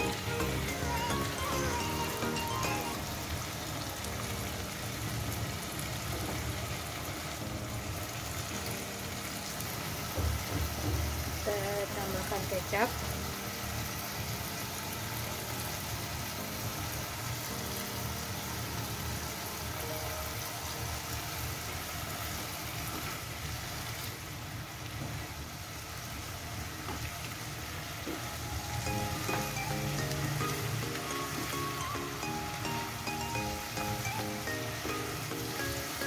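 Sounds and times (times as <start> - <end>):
soft background music: 0.0 - 24.0, 26.8 - 36.0
food sizzling in a wok: 0.0 - 36.0.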